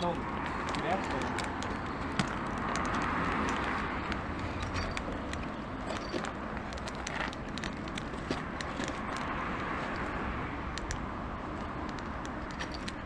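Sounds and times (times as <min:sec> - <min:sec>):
distant road traffic: 0:00.0 - 0:13.0
small clicks and scuffs: 0:00.0 - 0:13.0.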